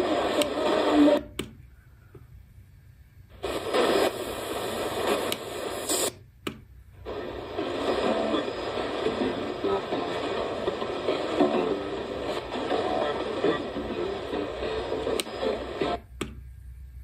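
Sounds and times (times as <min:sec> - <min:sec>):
radio static hiss: 0:00.0 - 0:01.4, 0:03.3 - 0:06.2, 0:07.0 - 0:17.0
radio tuning click: 0:00.0 - 0:02.3, 0:03.3 - 0:16.5.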